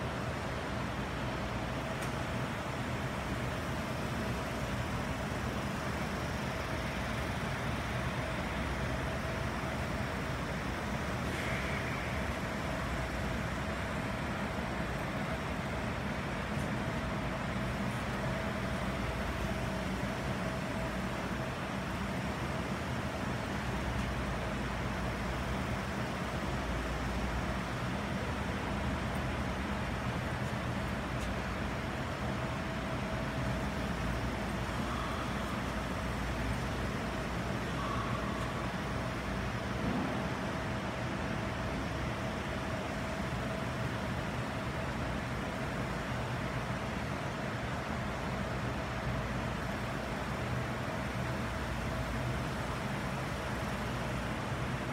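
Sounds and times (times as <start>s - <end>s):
faint hum: 0.0s - 54.9s.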